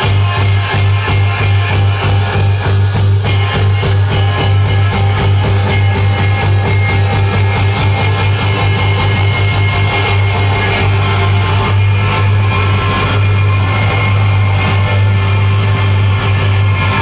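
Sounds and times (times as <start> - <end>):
fast drum strokes: 0.0 - 17.0
live band music: 0.0 - 17.0.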